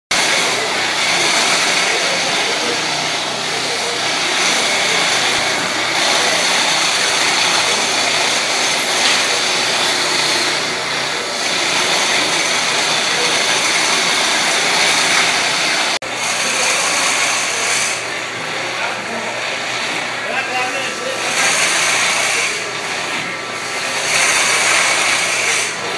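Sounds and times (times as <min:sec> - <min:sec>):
cutter shaving wood hiss: 0:00.1 - 0:25.9
lathe motor hum: 0:00.1 - 0:25.9.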